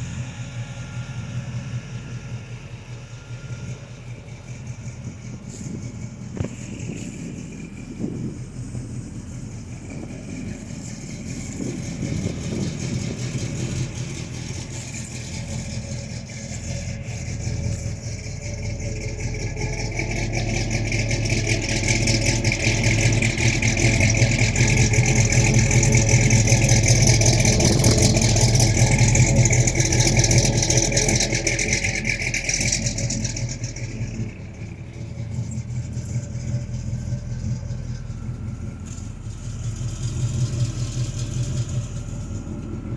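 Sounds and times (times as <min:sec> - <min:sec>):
car engine running: 0:00.0 - 0:42.9.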